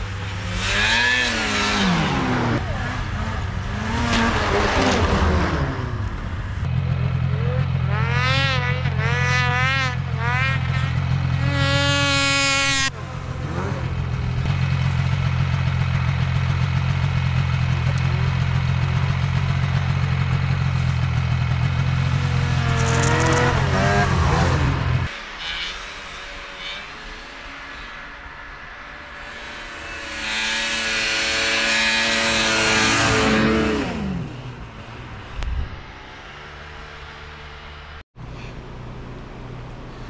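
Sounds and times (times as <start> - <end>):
off-road vehicle engine revving: 0.0 - 28.0, 29.1 - 40.0
steady engine drone: 0.0 - 40.0.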